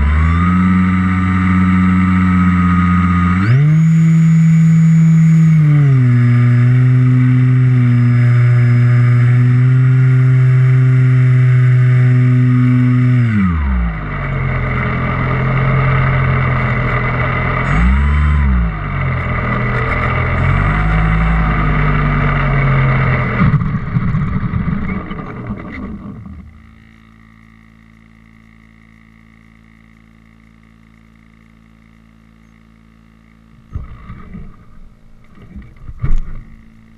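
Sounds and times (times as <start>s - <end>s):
faint steady hum: 0.0s - 36.9s
model plane motor droning: 0.0s - 36.9s.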